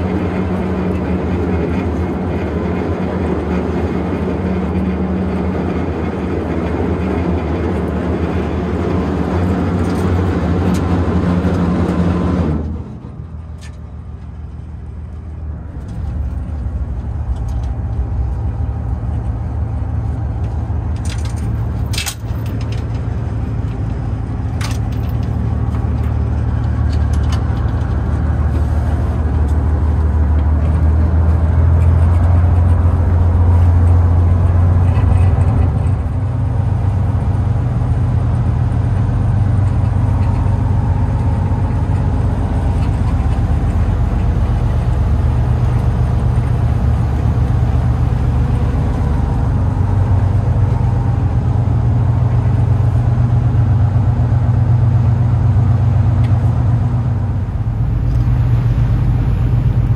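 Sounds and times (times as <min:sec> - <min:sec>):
boat engines droning: 0:00.0 - 0:59.9.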